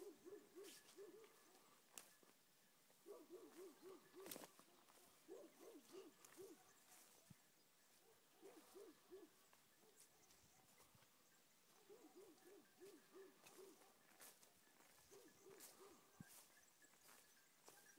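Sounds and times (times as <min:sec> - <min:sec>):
dogs baying: 0:00.0 - 0:01.8, 0:03.0 - 0:07.2, 0:07.9 - 0:17.2.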